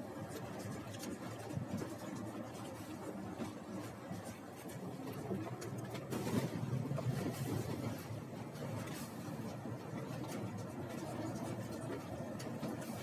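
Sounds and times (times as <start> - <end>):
bus engine and tyres rumbling: 0.0 - 13.0.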